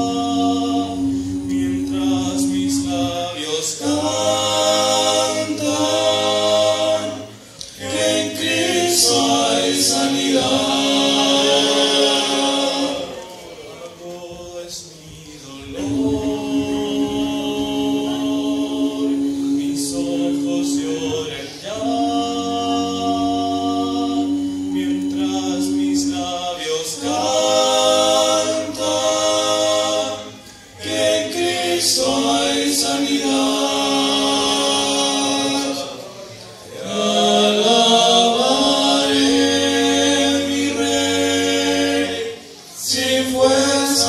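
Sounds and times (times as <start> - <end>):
male vocal quartet singing a cappella: 0.0 - 44.0.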